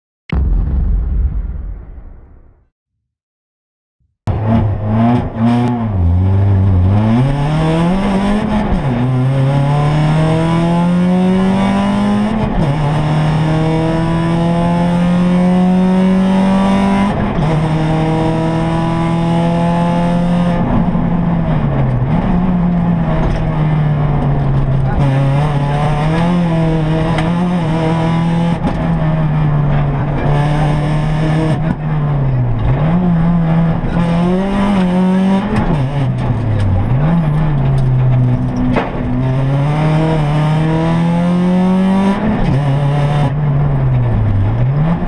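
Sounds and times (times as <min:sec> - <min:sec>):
rally car engine revving: 0:04.3 - 0:45.0.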